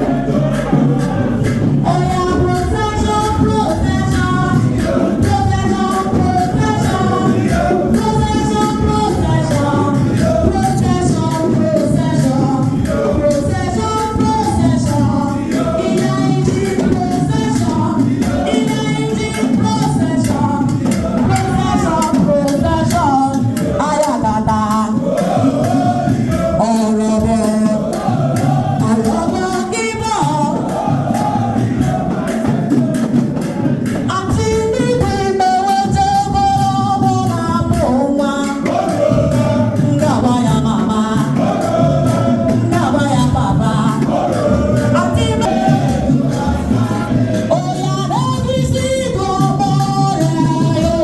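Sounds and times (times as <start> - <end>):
group singing in chorus: 0.0 - 51.0
music with percussion: 0.0 - 51.0.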